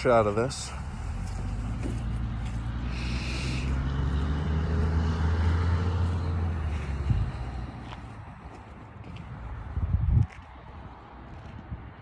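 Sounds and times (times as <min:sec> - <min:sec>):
vehicle engine humming: 0:00.0 - 0:11.6.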